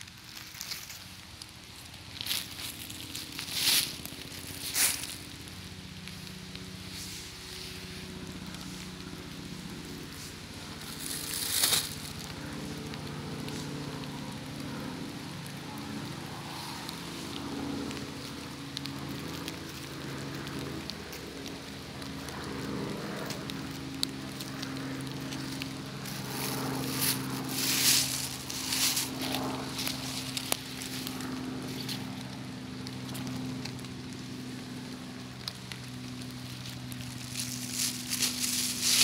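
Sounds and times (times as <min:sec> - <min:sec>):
dry leaves rustling and crackling: 0:00.0 - 0:39.0
steady low drone: 0:00.0 - 0:39.0.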